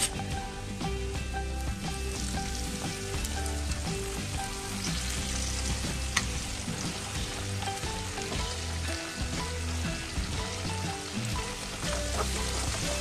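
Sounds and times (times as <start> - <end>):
background music with soft bass: 0.0 - 13.0
hot oil sizzling: 0.0 - 13.0.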